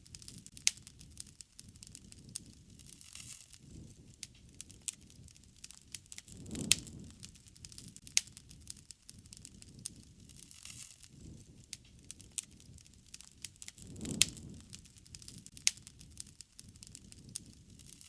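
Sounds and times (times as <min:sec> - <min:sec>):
soft rush of flame: 0:00.0 - 0:18.0
wood fire pops and snaps: 0:00.0 - 0:18.0.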